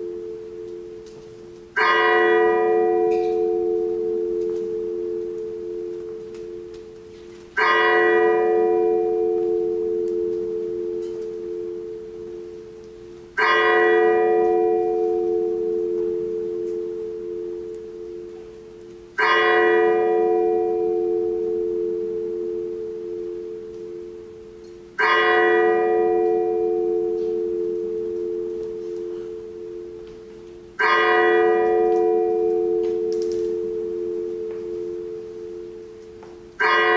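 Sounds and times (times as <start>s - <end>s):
bell tolling: 0.0s - 36.9s.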